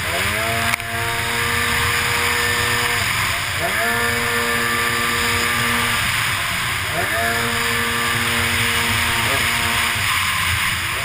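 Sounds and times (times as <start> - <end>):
jet ski engine revving: 0.0 - 11.0
water spray: 0.1 - 11.0.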